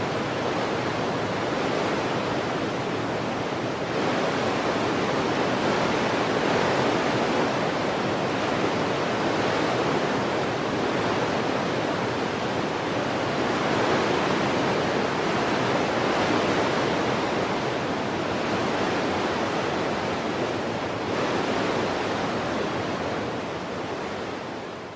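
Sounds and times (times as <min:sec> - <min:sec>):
wind blowing in gusts: 0:00.0 - 0:24.9.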